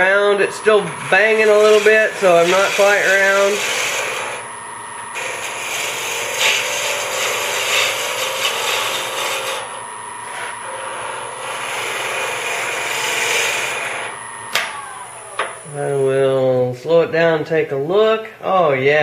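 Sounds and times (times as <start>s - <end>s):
gouge cutting wood on lathe: 0.0s - 15.8s
thin steady whine: 0.0s - 19.0s.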